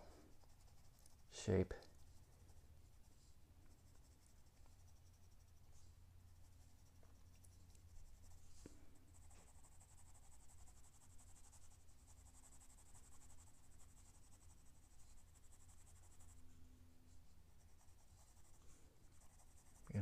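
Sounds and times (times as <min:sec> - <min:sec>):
pencil scratching on paper: 0:00.0 - 0:08.5, 0:09.1 - 0:16.4, 0:17.6 - 0:20.0.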